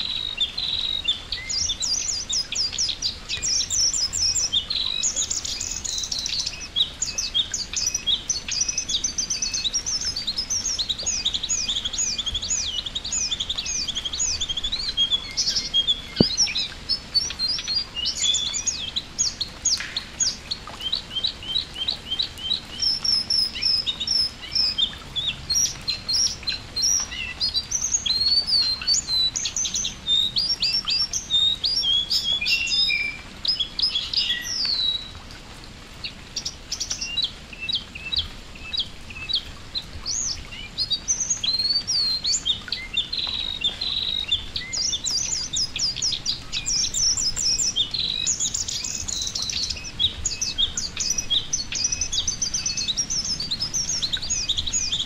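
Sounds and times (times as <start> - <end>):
birds chattering with high chirps: 0.0 - 35.2, 36.0 - 55.0
rain dripping onto water: 0.0 - 55.0.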